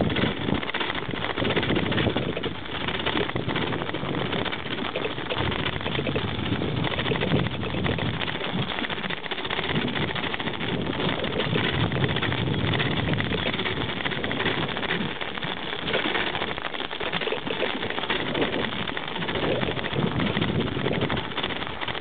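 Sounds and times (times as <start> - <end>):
bicycle tyres rolling on snow: 0.0 - 22.0
wind on microphone: 0.0 - 22.0.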